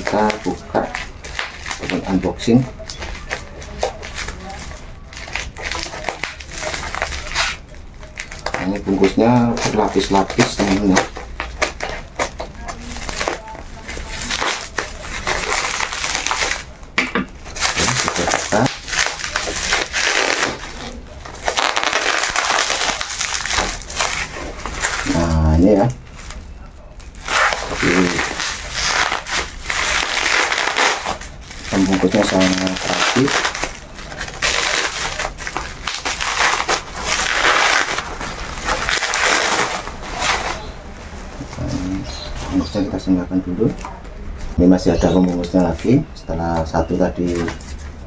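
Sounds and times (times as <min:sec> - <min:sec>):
bubble wrap crinkling: 0:00.0 - 0:48.0.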